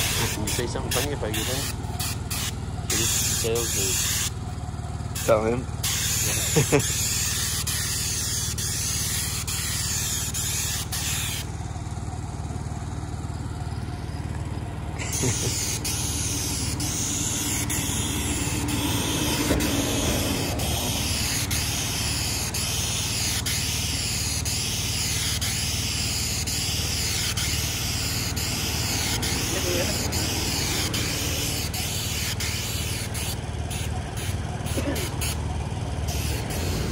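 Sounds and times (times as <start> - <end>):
spray wand hissing: 0.0 - 4.4, 5.1 - 11.5, 15.0 - 36.9
steady engine drone: 0.0 - 36.9.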